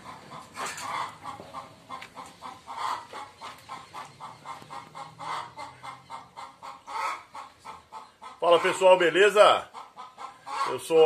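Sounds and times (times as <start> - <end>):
hen clucking: 0.0 - 11.0.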